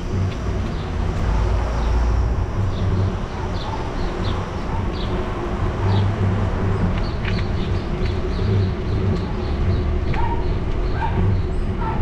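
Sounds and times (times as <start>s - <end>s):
bicycle rolling on pavement: 0.0s - 12.0s.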